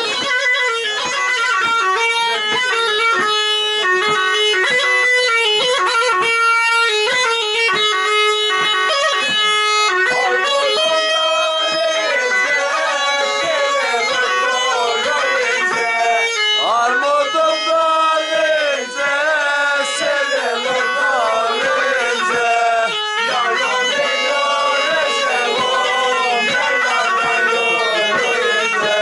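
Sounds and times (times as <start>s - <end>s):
bagpipe playing folk melody: 0.0s - 29.0s.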